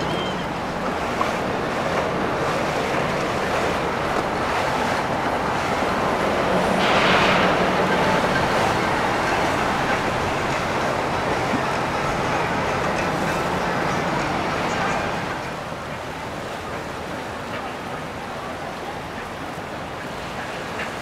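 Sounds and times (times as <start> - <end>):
water rushing past boat: 0.0 - 21.0.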